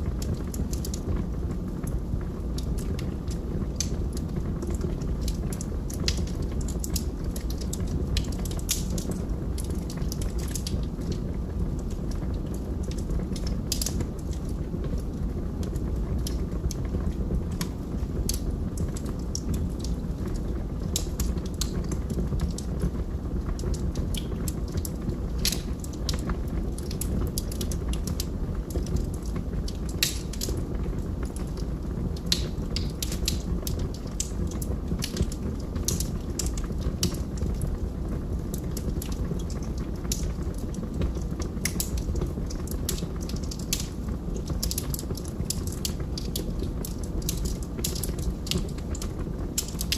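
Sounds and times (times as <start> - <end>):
logs crackling in fireplace: 0.0 - 49.9
low fire rumble: 0.0 - 49.9.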